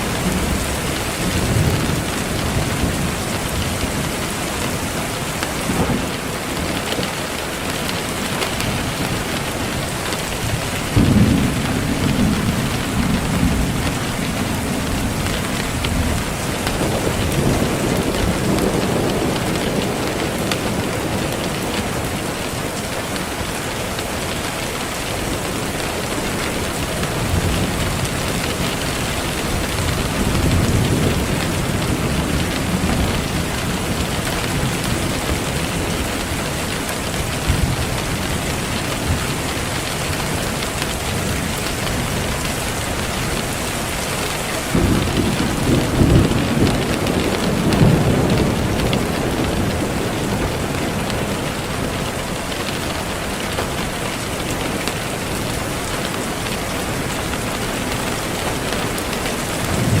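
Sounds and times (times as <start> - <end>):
thunder rolling: 0.0 - 22.8, 26.1 - 53.1, 58.5 - 60.0
heavy rain: 0.0 - 60.0.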